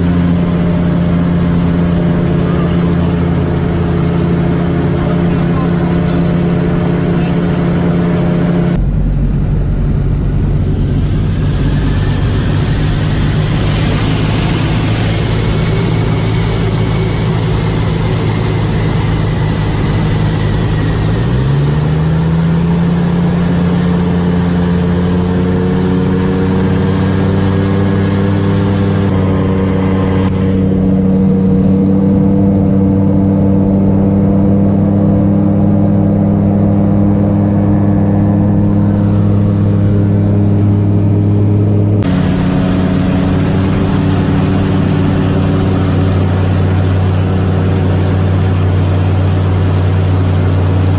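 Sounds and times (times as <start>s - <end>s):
propeller aircraft engine: 0.0s - 50.9s.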